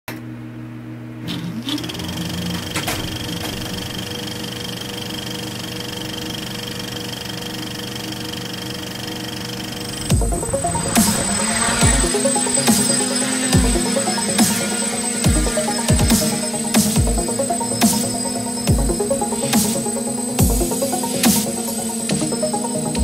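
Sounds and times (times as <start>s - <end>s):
quadcopter motors buzzing: 1.2s - 23.0s.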